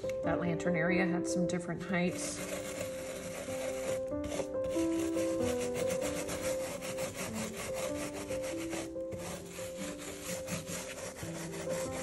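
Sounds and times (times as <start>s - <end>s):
soft background music: 0.0s - 12.0s
brush scrubbing glass mosaic: 2.1s - 12.0s.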